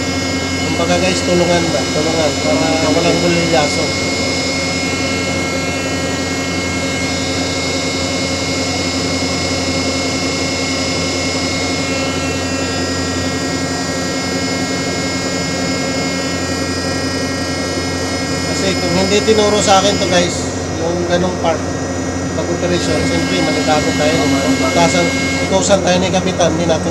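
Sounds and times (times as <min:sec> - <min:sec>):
deck crane machinery humming: 0:00.0 - 0:26.9.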